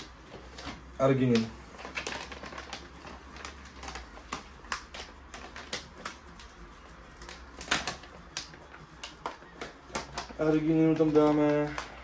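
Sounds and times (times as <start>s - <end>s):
plastic pouch crackling: 0.0s - 12.0s.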